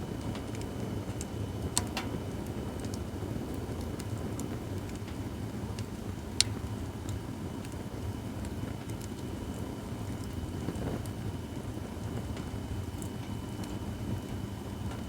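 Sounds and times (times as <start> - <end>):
burning wood crackling and popping: 0.0 - 15.0
fire low rumble: 0.0 - 15.0.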